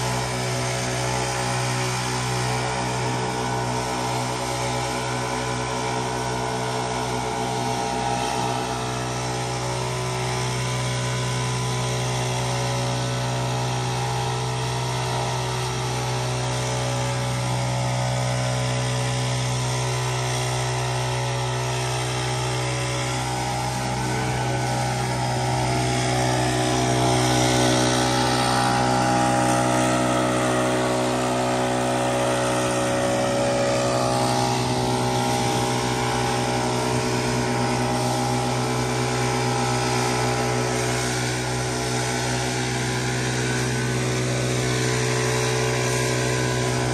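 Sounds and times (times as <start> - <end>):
leaf blowers running: 0.0 - 46.9.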